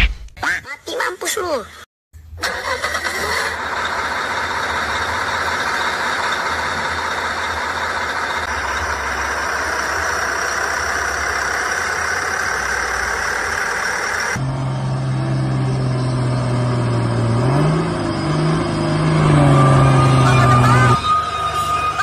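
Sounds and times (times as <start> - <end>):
truck engine running: 2.3 - 22.0.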